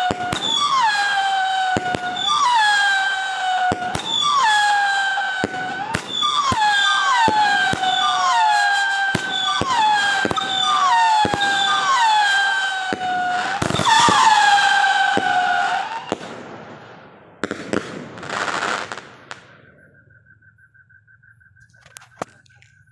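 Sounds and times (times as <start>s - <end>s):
firework whistles: 0.0s - 22.9s.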